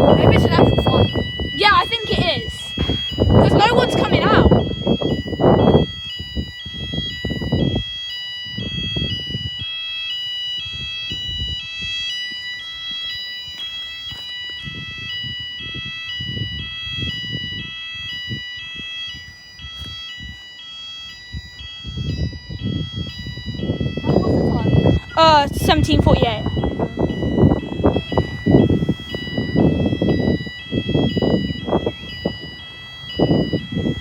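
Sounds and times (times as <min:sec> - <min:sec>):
fire alarm sounder: 0:00.0 - 0:34.0.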